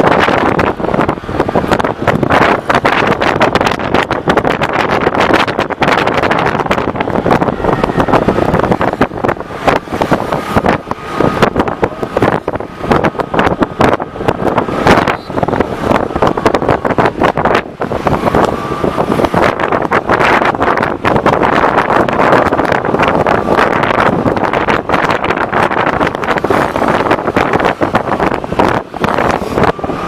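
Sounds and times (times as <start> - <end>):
vehicle and road noise: 0.0 - 30.0
wind buffeting microphone: 0.0 - 30.0.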